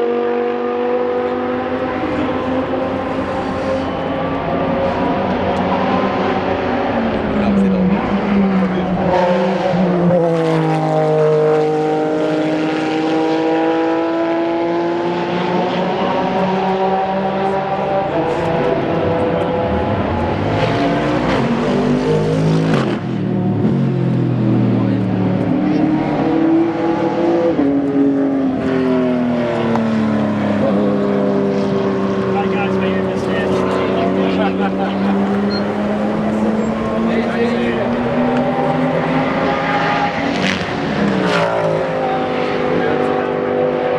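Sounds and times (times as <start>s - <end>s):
race car engine passing by: 0.0s - 43.9s.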